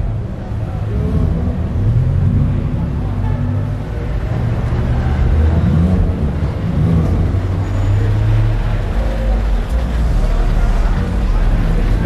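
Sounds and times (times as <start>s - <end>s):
car engines rumbling at low speed: 0.0s - 12.0s.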